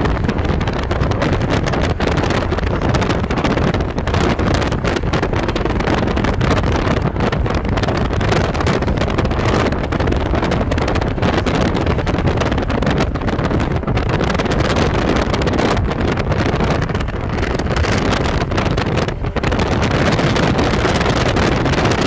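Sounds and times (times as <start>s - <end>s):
car road noise at speed: 0.0s - 22.0s
wind buffeting microphone: 0.0s - 22.0s.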